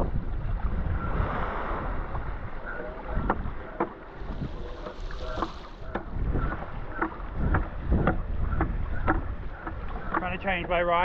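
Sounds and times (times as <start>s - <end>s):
water splashing against paddle: 0.0s - 11.0s
wind buffeting microphone: 0.0s - 11.0s.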